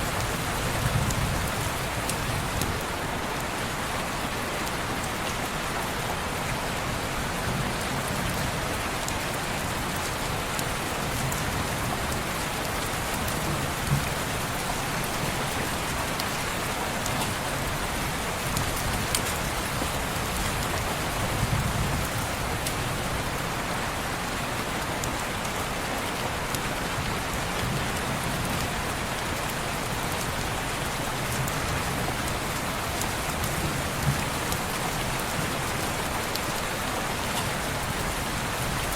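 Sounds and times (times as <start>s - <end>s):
rain on a window: 0.0s - 38.9s.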